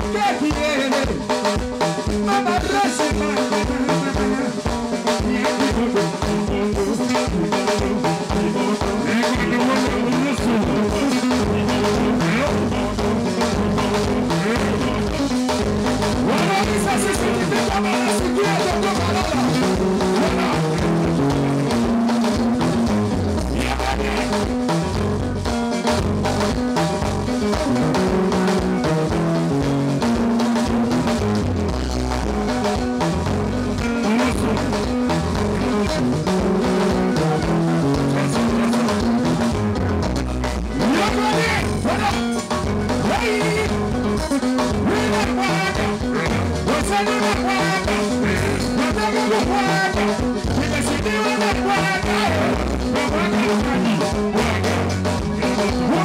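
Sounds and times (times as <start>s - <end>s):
electric guitar: 0.0s - 56.0s
steady drum beat: 0.0s - 56.0s
stepping bass line: 0.0s - 56.0s.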